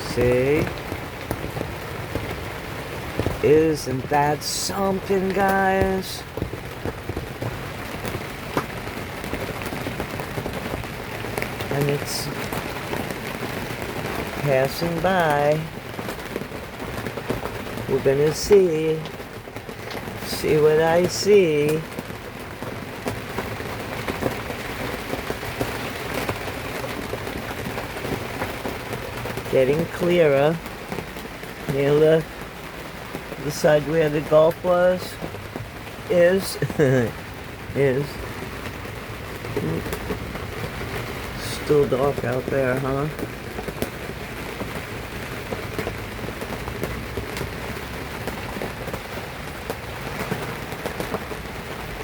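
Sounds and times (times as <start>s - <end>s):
rain hissing: 0.0s - 52.0s
raindrops ticking on a boat: 0.0s - 52.0s.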